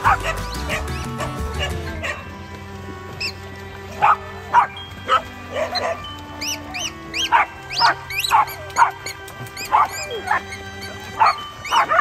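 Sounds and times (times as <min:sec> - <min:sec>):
dog yipping: 0:00.0 - 0:02.2, 0:04.0 - 0:12.0
dogs barking: 0:00.0 - 0:02.3, 0:04.0 - 0:12.0
background music: 0:00.0 - 0:12.0.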